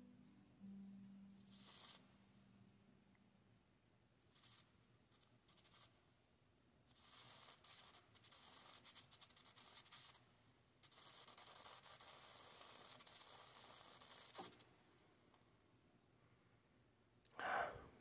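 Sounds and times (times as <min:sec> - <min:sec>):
faint scratchy hiss: 0:00.0 - 0:18.0.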